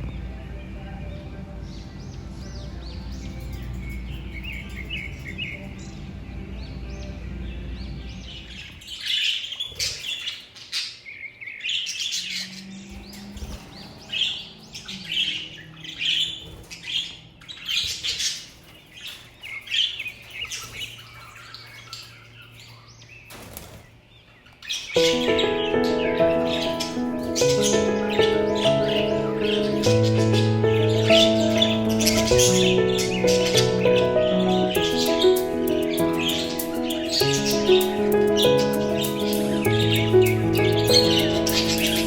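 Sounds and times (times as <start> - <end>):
budgerigars chirping: 1.7 - 42.0.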